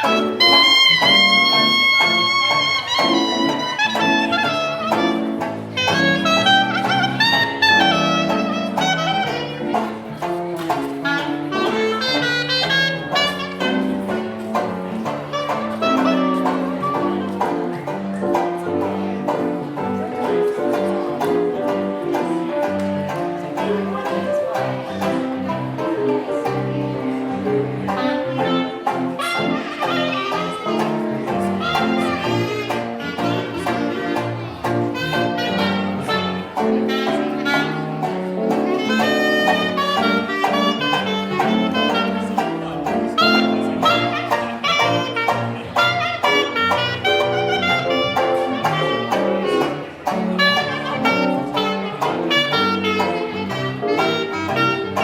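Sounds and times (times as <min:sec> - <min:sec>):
horns playing melody: 0:00.0 - 0:55.0
jazz band playing: 0:00.0 - 0:55.0.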